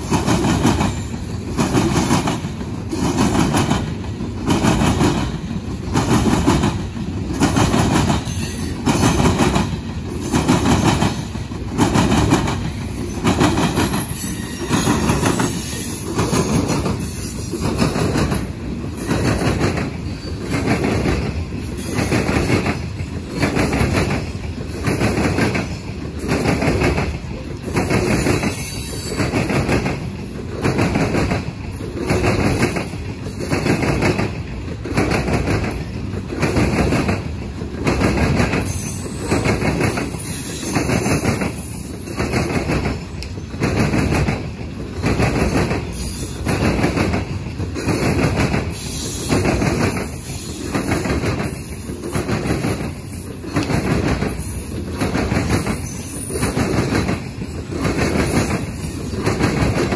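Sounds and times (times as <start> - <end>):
train wheels clacking over rail joints: 0.0 - 59.9.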